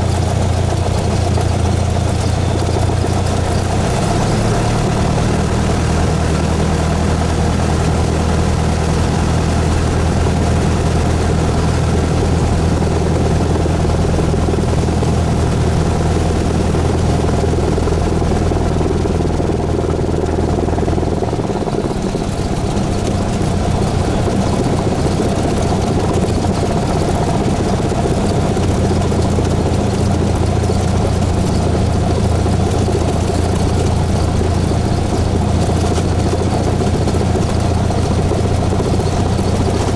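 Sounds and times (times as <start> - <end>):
small plane engine and propeller: 0.0 - 39.9.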